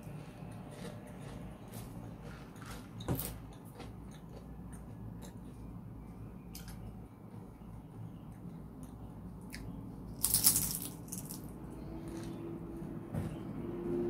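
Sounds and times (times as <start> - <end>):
chewing crunchy fried food: 0.0 - 12.4
steady low hum: 0.0 - 14.0.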